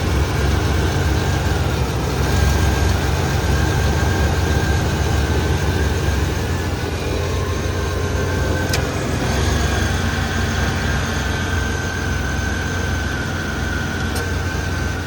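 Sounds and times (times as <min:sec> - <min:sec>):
car engine running: 0:00.0 - 0:15.0
high-pitched whine: 0:00.0 - 0:15.0.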